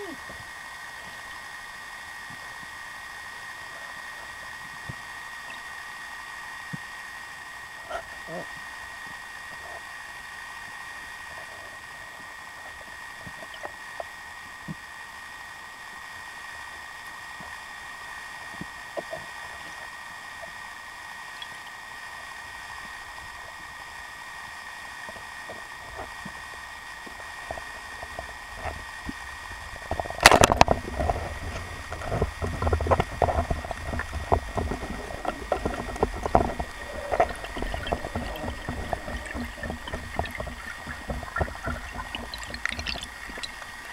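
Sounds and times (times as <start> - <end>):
underwater hiss with high whine: 0.0 - 43.9.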